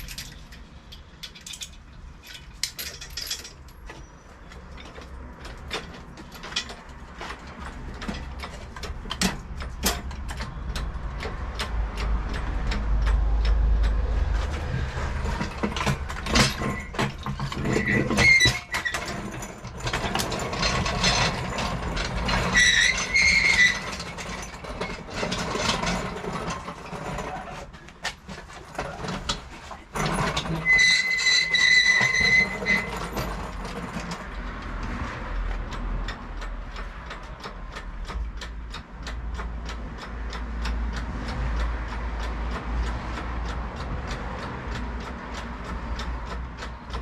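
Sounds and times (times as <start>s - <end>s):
rapid mechanical ticking: 0.0s - 47.0s.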